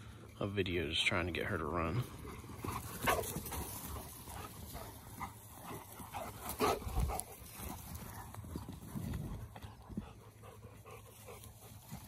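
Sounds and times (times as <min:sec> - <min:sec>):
paws thudding on grass: 0:02.1 - 0:12.0.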